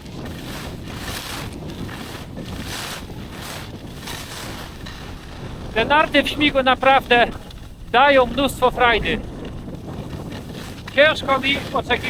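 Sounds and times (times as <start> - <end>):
skis hissing and scraping on snow: 0.0 - 12.0
wind rumbling on microphone: 0.0 - 12.0.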